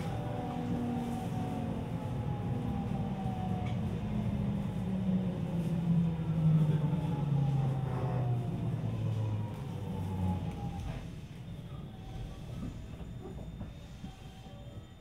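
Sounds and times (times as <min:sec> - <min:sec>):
train car rumbling: 0:00.0 - 0:15.0.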